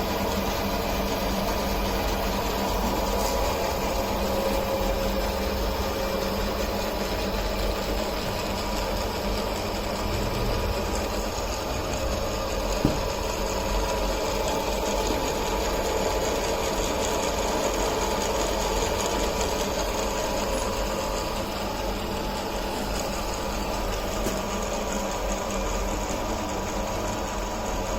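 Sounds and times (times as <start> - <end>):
drilling machine humming: 0.0 - 27.9.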